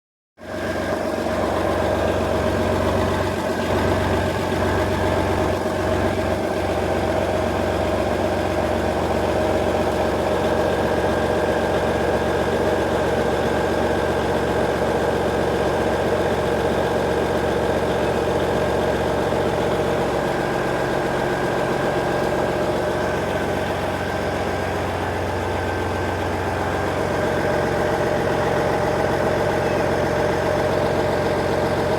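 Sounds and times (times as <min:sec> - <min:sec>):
engine idling: 0:00.4 - 0:31.9.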